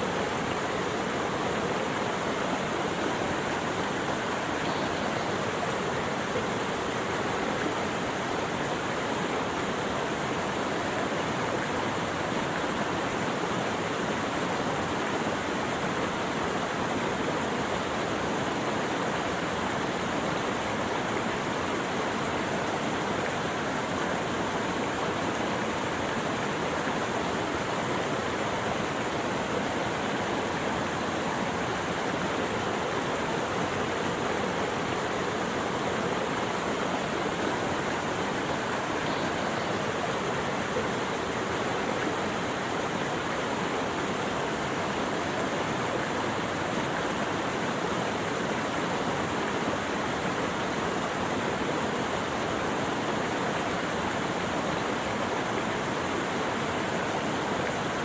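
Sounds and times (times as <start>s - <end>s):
rushing flowing water: 0.0s - 58.0s.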